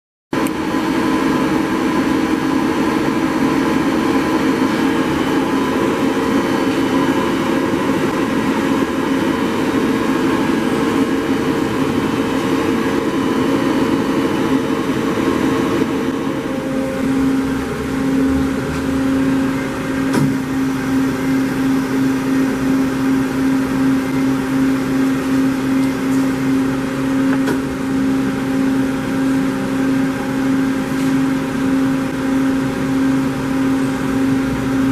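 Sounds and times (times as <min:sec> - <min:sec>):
lathe machine whine and hum: 0:00.4 - 0:34.9
pulsing machine hum: 0:00.4 - 0:34.9.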